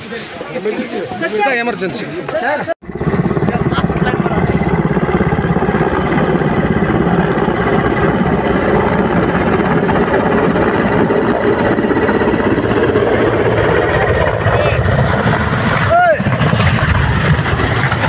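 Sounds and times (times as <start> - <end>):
helicopter rotor chopping: 0.9 - 18.0.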